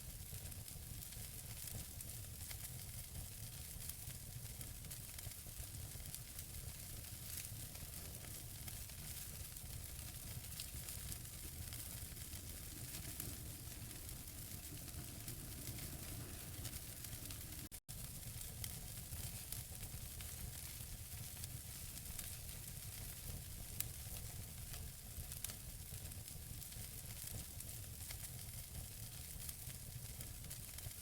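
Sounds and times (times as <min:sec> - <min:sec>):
logs crackling in fire: 0:00.1 - 0:31.0.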